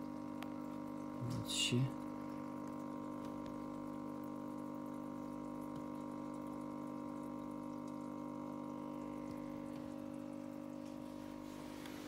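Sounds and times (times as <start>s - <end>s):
aquarium pump humming: 0.0s - 12.0s
trickle of water: 0.0s - 12.0s.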